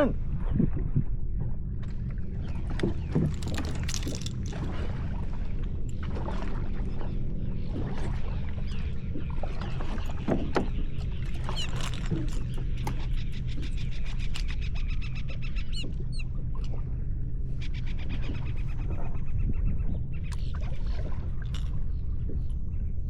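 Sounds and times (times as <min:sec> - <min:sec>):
steady low rumble: 0:00.0 - 0:23.0
water sloshing against kayak hull: 0:00.2 - 0:22.7.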